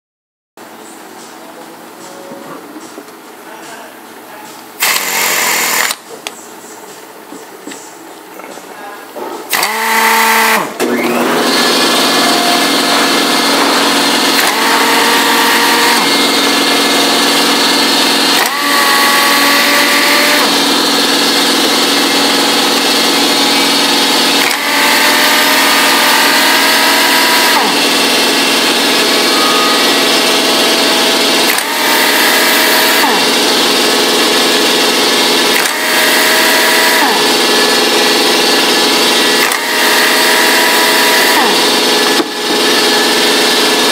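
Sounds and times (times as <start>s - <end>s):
air impact wrench whine: 4.8s - 6.0s, 9.5s - 43.9s.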